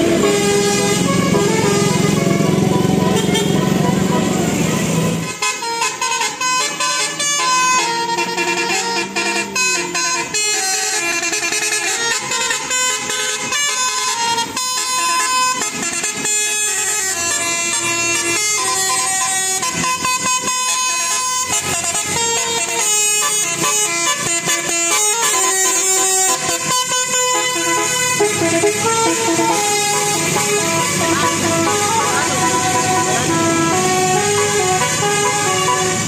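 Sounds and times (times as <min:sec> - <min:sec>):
multi-tone air horn melody: 0:00.0 - 0:36.0.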